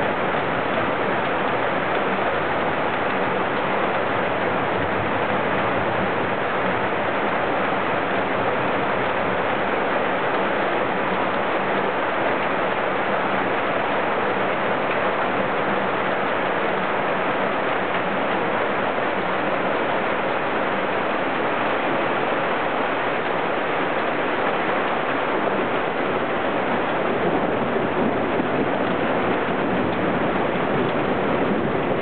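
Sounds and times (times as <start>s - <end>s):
rain falling steadily: 0.0s - 32.0s.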